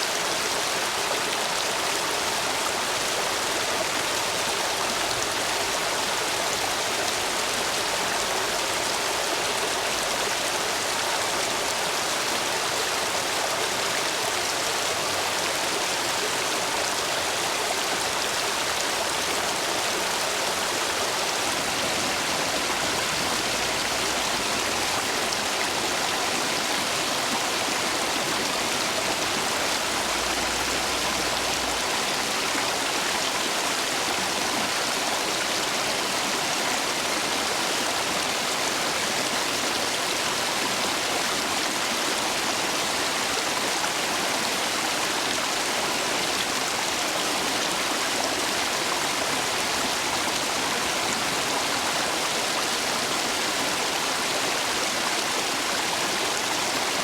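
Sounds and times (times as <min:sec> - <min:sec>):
stream water rushing over stones: 0:00.0 - 0:57.0.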